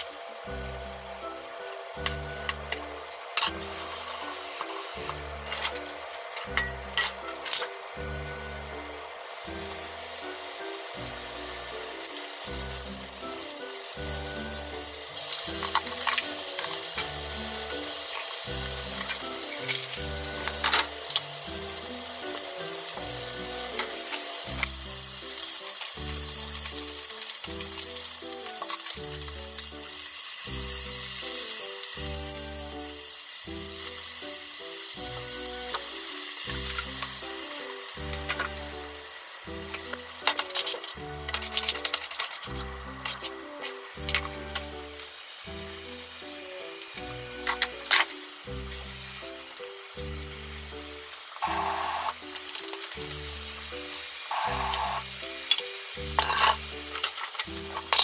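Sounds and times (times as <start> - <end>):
pork sizzling in a frying pan: 0.0 - 58.0.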